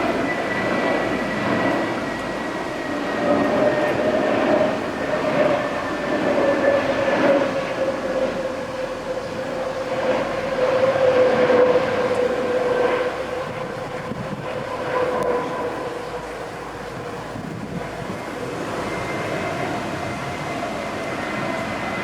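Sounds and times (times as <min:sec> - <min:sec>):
jet engine whine: 0:00.0 - 0:22.0
rushing jet noise: 0:00.0 - 0:22.0.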